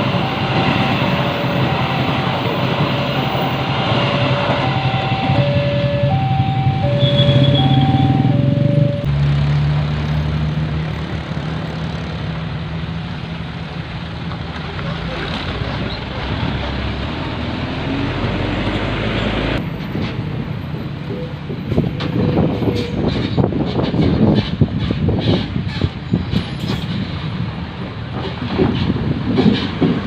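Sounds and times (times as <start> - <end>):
road noise: 0.0 - 30.0.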